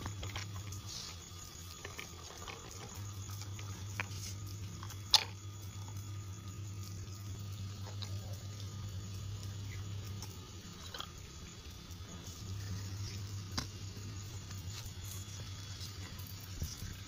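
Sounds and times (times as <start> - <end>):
low steady hum: 0.0 - 17.0
toy tyres crunching on grit: 0.0 - 17.0.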